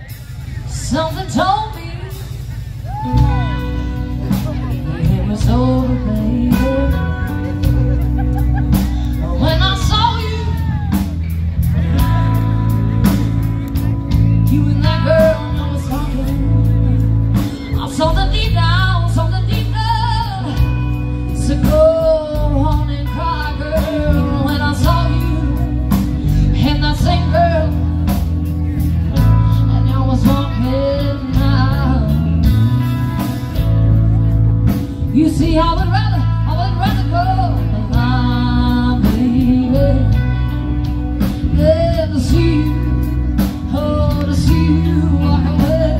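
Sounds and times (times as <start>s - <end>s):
bass line: 0.0s - 45.9s
guitar: 0.0s - 45.9s
person singing: 0.8s - 33.7s, 34.6s - 45.9s.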